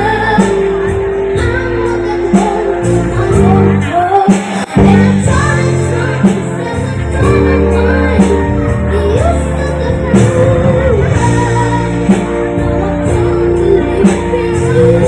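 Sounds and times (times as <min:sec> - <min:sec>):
backing music: 0:00.0 - 0:15.0
child singing: 0:00.0 - 0:15.0.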